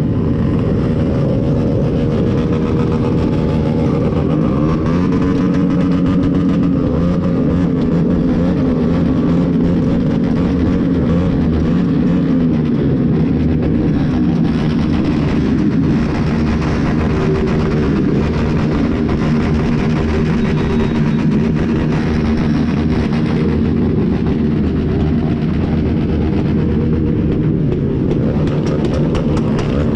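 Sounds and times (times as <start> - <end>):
motorcycle engines running: 0.0 - 29.9.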